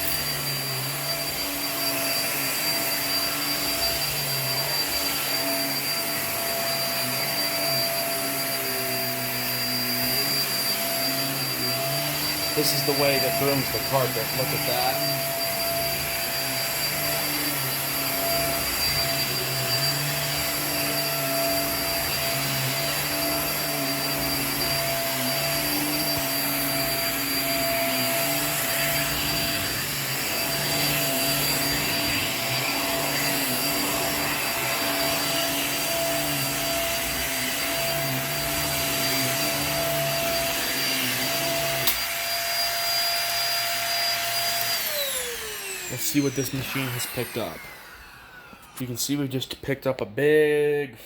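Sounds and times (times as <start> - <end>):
vacuum cleaner running on carpet: 0.0 - 49.3.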